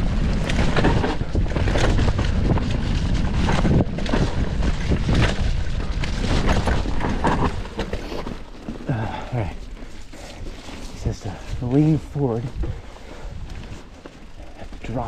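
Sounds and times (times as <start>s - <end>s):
wind buffeting microphone: 0.0s - 8.1s, 10.4s - 15.0s
bike knocking and clattering: 0.0s - 15.0s.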